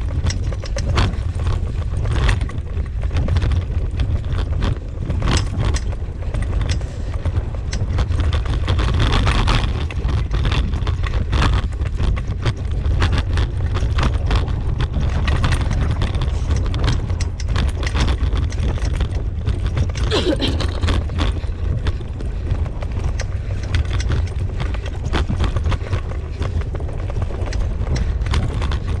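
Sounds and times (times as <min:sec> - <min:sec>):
rig rattling and clicking: 0:00.0 - 0:29.0
wind and wheels rumbling: 0:00.0 - 0:29.0.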